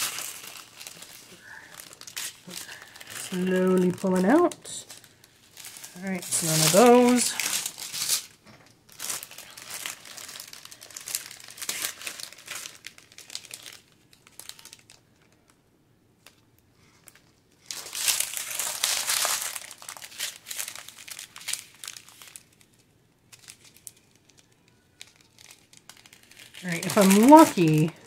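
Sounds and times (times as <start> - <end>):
plastic bags crinkling: 0.0 - 15.6, 16.2 - 28.0.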